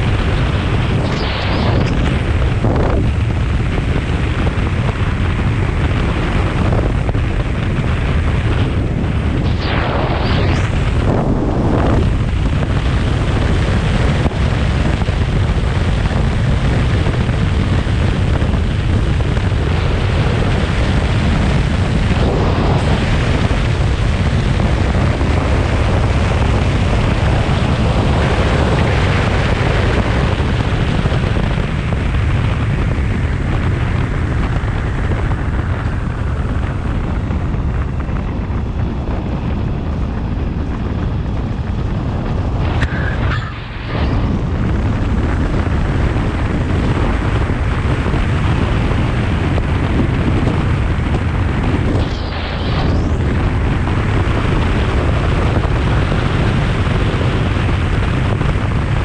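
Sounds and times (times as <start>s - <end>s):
road noise: 0.0s - 59.0s
wind rumble on microphone: 0.0s - 59.0s.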